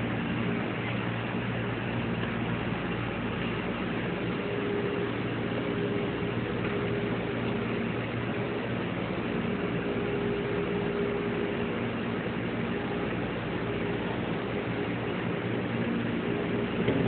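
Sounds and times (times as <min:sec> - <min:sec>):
faint droning tone: 0:00.0 - 0:17.0
machinery hum with hiss: 0:00.0 - 0:17.0.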